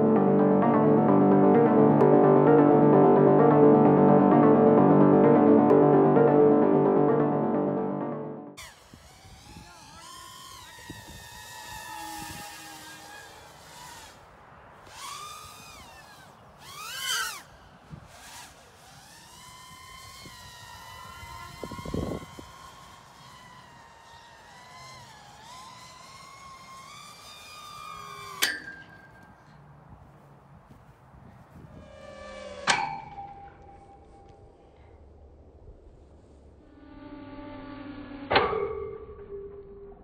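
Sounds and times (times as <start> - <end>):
drone motors whining: 0.0 - 29.8, 30.7 - 39.2.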